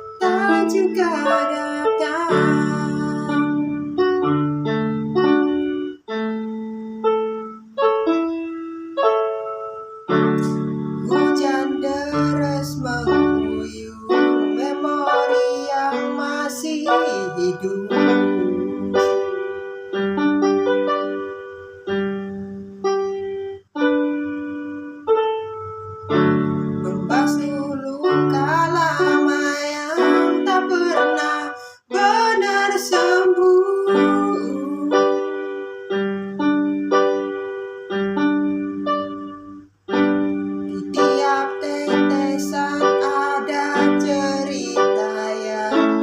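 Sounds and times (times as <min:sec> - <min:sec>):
piano chords and notes: 0:00.0 - 0:46.0.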